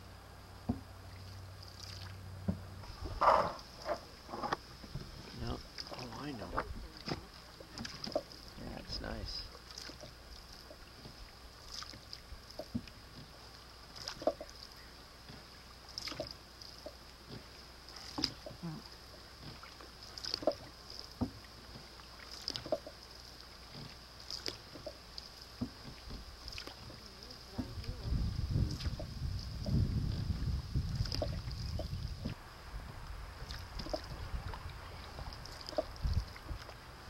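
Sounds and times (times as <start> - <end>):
canoe paddle splashing water: 0.0 - 37.0.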